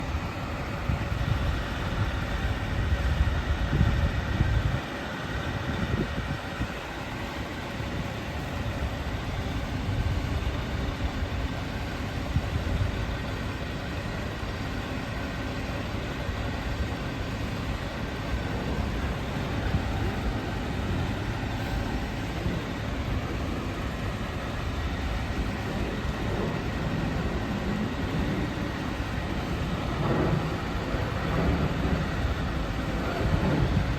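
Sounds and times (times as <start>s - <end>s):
fire truck engine rumbling: 0.0s - 33.9s.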